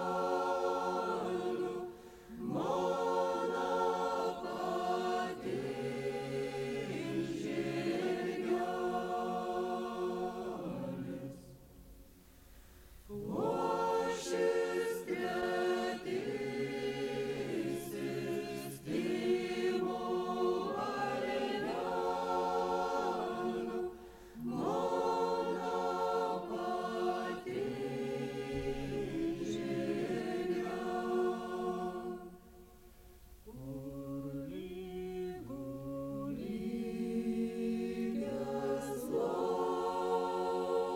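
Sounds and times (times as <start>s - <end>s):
unaccompanied group singing: 0.0s - 11.9s, 13.1s - 32.8s, 33.4s - 40.9s.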